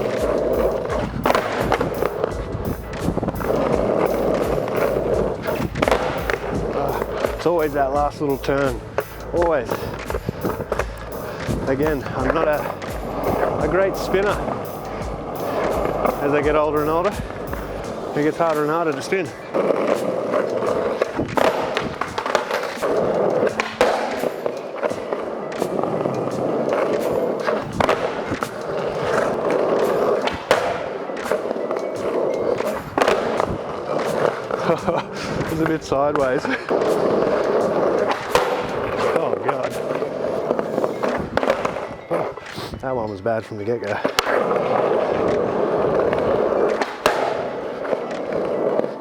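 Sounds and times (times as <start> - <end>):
skateboard clacking: 0.0 - 49.0
skateboard wheels rolling on concrete: 0.0 - 49.0.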